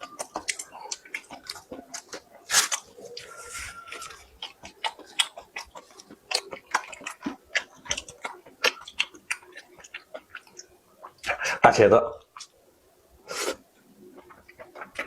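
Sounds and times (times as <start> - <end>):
person chewing food: 0.0 - 11.6, 12.2 - 12.6, 13.3 - 15.0.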